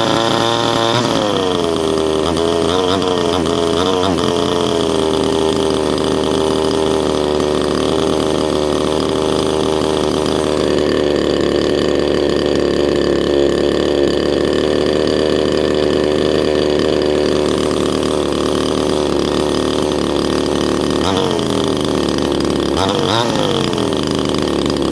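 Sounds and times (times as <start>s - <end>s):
chainsaw engine running: 0.0s - 24.9s.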